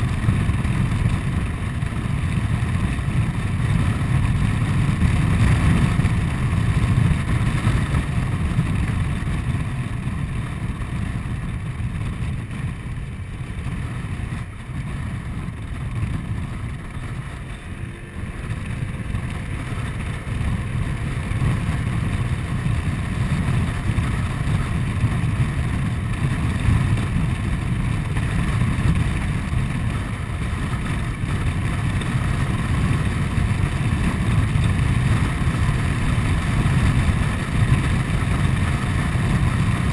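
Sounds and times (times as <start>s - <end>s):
scooter engine running: 0.0s - 39.9s
wind on microphone: 0.0s - 39.9s.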